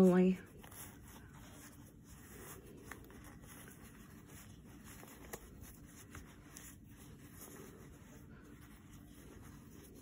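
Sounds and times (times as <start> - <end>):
fabric rustling: 0.0 - 10.0.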